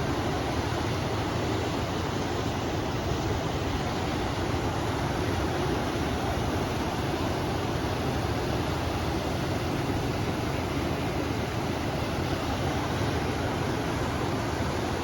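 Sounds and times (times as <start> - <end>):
river water rushing: 0.0 - 15.0
wind: 0.0 - 15.0.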